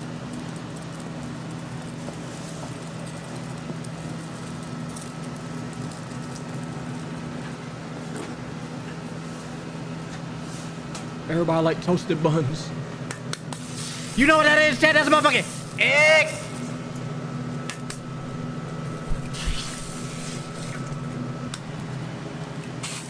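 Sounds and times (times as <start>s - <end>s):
ventilation fan hum: 0.0s - 23.0s.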